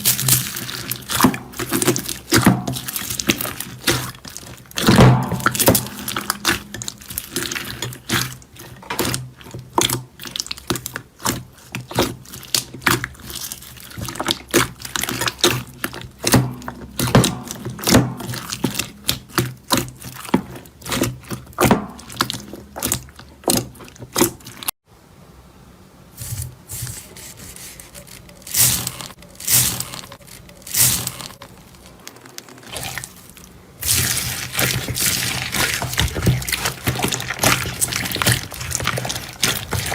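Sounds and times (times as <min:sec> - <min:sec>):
soft slime squishes: 0:00.0 - 0:24.7, 0:26.2 - 0:39.9.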